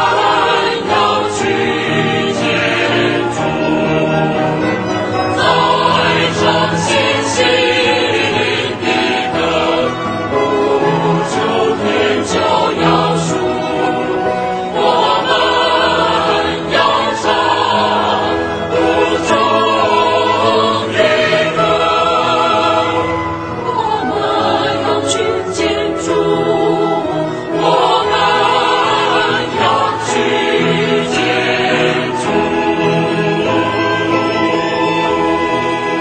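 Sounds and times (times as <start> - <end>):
choir singing a hymn: 0.0 - 36.0
musical accompaniment: 0.0 - 36.0.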